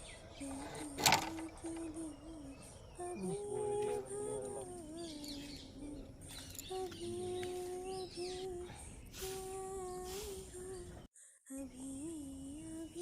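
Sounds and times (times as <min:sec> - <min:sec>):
small birds chirping: 0:00.0 - 0:13.0
high voice humming a tune: 0:00.3 - 0:13.0.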